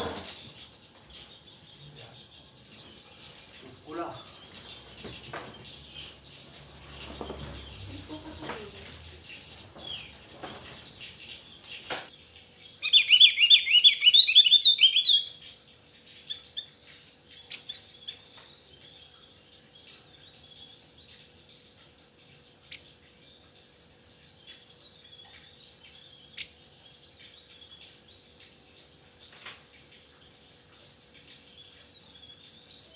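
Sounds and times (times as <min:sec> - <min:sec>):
bird chirping song: 0:00.0 - 0:21.3, 0:24.3 - 0:28.5, 0:31.2 - 0:32.9.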